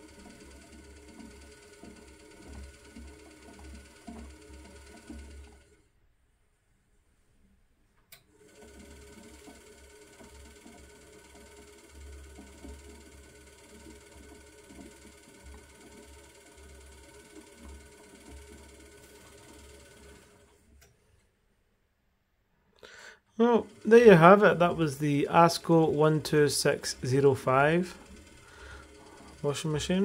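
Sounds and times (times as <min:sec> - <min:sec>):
washing machine motor whining: 0:00.0 - 0:05.8, 0:08.3 - 0:20.8, 0:23.4 - 0:30.0.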